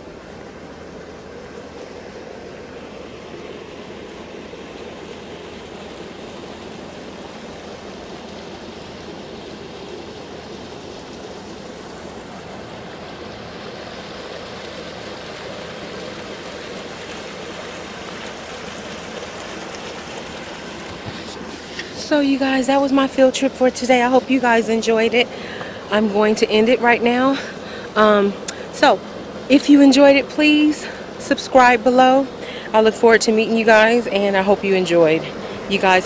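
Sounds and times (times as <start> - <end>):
fountain water splashing: 0.0 - 36.0.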